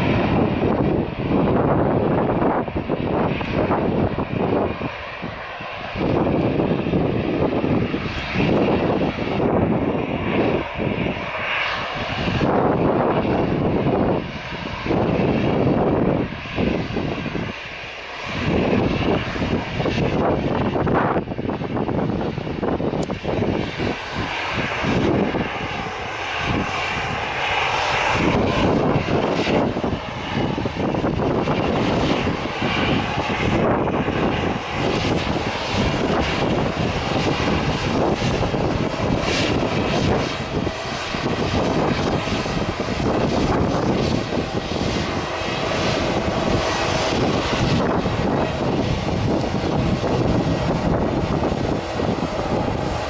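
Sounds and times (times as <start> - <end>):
aircraft engines running loudly: 0.0 - 53.0
wind buffeting microphone: 0.0 - 53.0.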